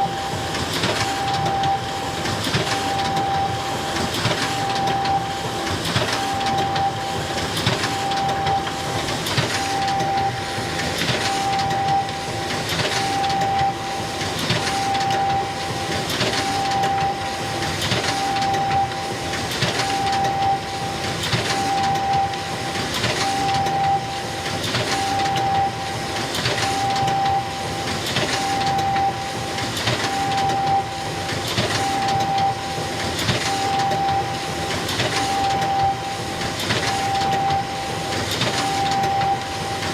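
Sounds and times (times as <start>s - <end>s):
photocopier whine: 0.0s - 39.9s.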